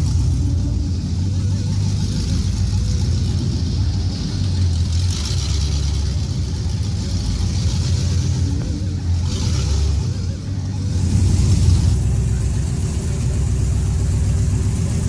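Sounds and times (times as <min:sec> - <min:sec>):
diesel truck engine running hard: 0:00.0 - 0:15.0.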